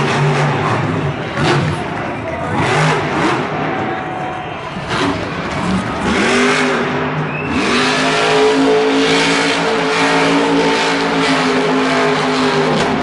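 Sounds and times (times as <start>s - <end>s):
truck engine revving hard: 0.0s - 3.9s, 4.7s - 13.0s.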